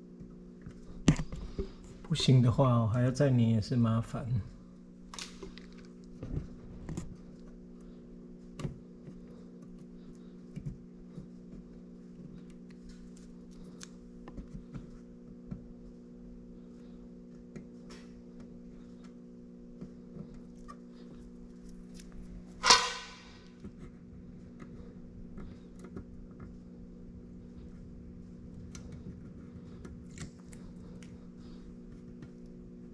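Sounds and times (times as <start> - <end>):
steady electrical hum: 0.0 - 32.9.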